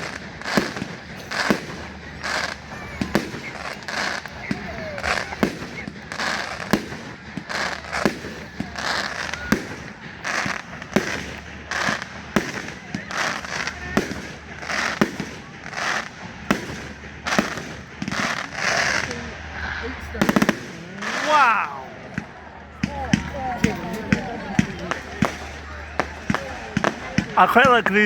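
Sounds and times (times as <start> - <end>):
hissing spray of fireworks: 0.0 - 28.0.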